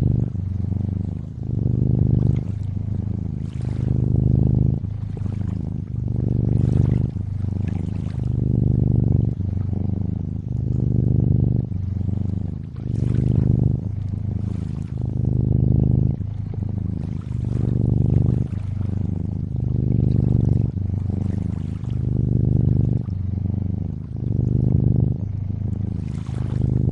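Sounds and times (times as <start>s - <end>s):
cat purring: 0.0s - 26.9s
gently moving lake water: 0.1s - 26.9s.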